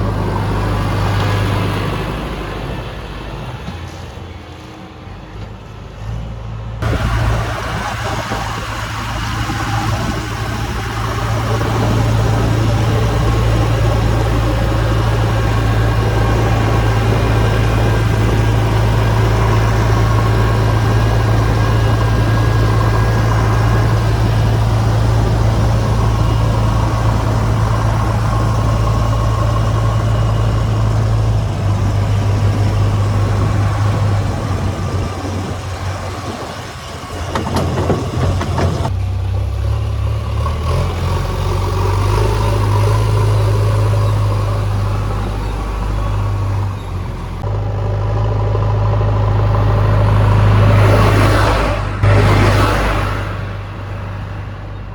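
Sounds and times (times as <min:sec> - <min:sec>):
diesel engine running steadily: 0:00.0 - 0:54.9.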